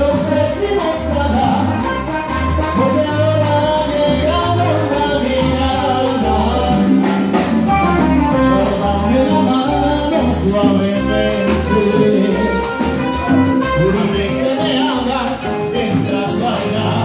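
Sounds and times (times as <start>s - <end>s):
congas: 0.0s - 17.0s
live salsa band playing: 0.0s - 17.0s.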